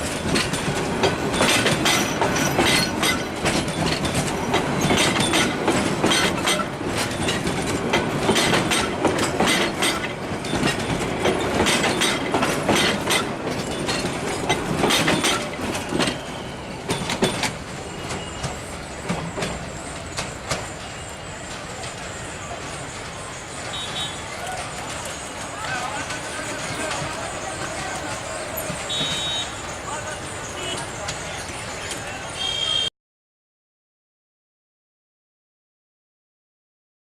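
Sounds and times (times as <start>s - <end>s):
train rumble: 0.0s - 32.8s
train wheels clacking over rail joints: 0.0s - 32.8s.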